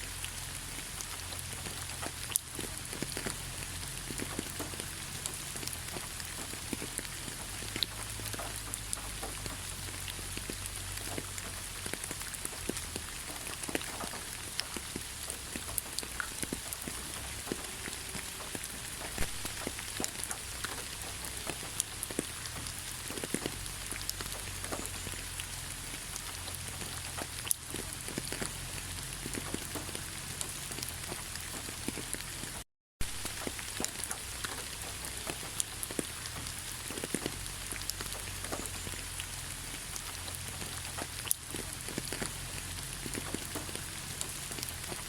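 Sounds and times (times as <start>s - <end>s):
raindrops clicking close by: 0.0s - 45.0s
steady rain hissing: 0.0s - 45.0s.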